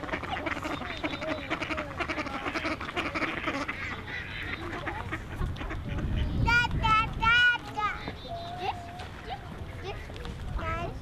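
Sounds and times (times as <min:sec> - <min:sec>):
ducks quacking: 0:00.0 - 0:10.2.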